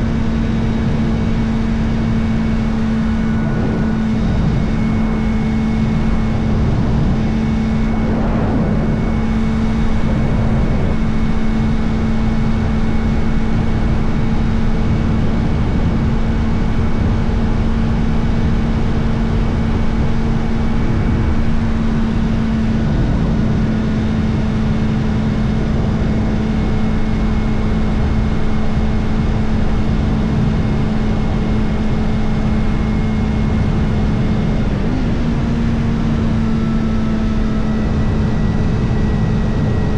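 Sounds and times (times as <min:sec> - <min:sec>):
motorcycle engine running: 0:00.0 - 0:34.7
wind rush: 0:00.0 - 0:39.9.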